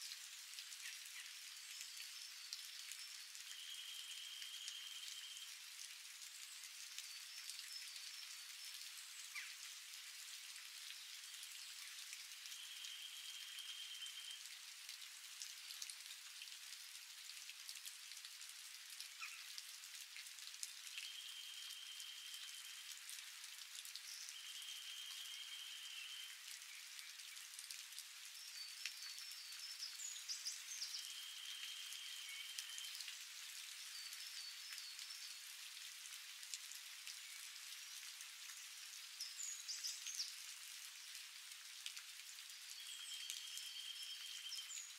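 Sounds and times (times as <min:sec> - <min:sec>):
rain pattering on leaves: 0:00.0 - 0:44.9.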